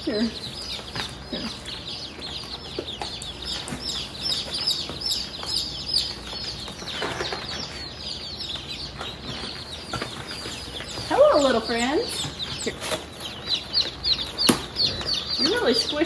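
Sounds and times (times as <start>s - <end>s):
chicks and ducklings peeping: 0.0s - 16.0s.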